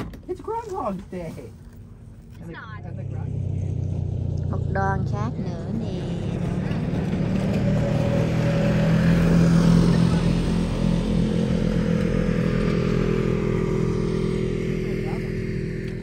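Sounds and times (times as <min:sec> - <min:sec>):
off-road vehicle engines passing: 0:00.2 - 0:16.0.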